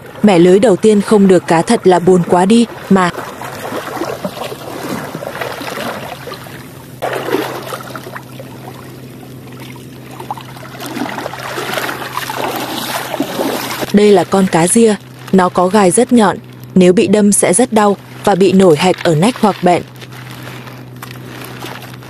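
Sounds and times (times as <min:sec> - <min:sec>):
steady low hum: 0:00.0 - 0:22.0
water splashing around legs: 0:01.1 - 0:15.8, 0:18.0 - 0:22.0.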